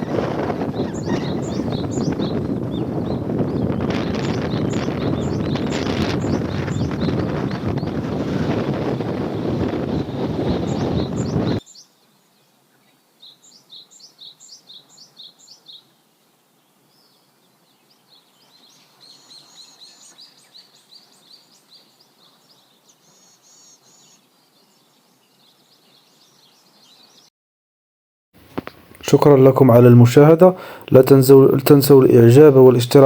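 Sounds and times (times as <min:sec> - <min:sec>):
songbirds chirping and trilling: 0:00.0 - 0:27.3, 0:28.6 - 0:33.0.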